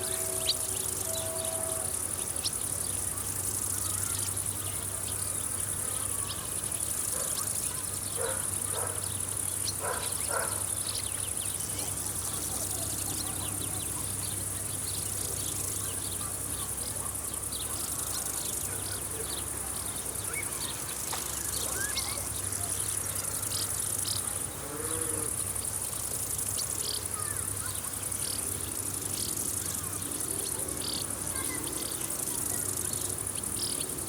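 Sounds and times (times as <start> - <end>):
crickets trilling: 0.0 - 34.0
short insect chirps: 0.0 - 34.0.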